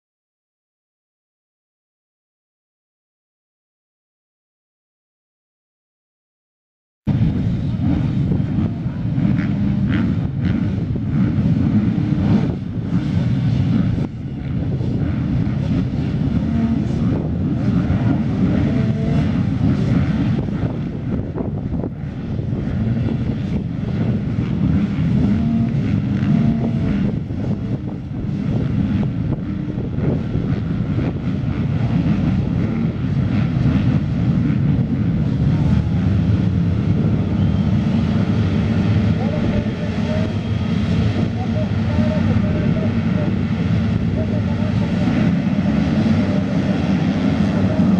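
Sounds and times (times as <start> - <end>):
motocross bike engines droning: 7.1 - 47.9
motorbike engine revs: 7.2 - 47.9.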